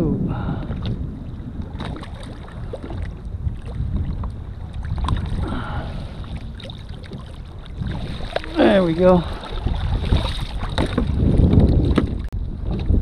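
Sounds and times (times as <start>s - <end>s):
wind buffeting microphone: 0.0s - 13.0s
water sloshing against hull: 0.1s - 13.0s.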